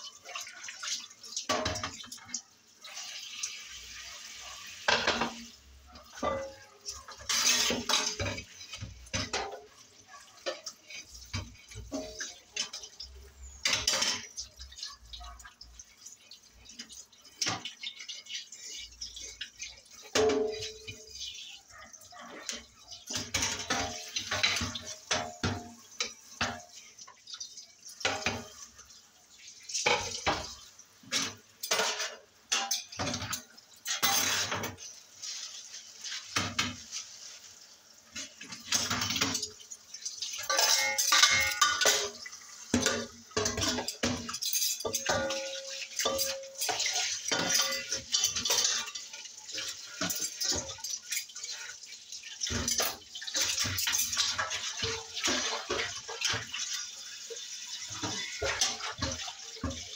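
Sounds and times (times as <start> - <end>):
dishes clattering in a sink: 0.0 - 59.9
running water: 0.0 - 59.9.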